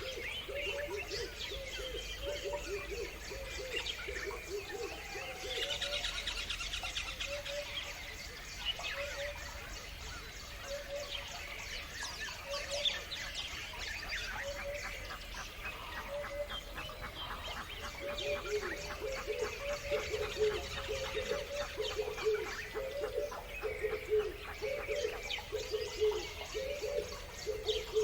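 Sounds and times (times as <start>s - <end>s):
songbirds chirping and trilling: 0.0s - 28.0s.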